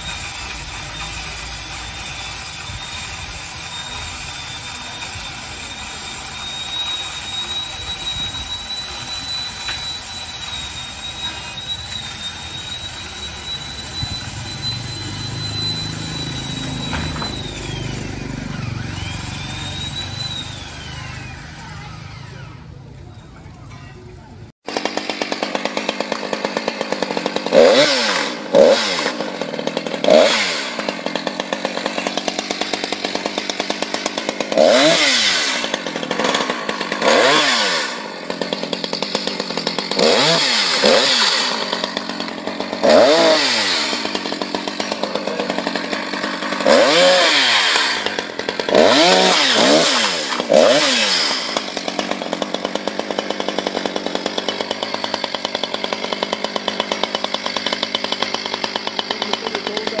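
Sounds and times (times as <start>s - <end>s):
chainsaw revving and idling: 0.0s - 23.8s, 24.4s - 60.0s.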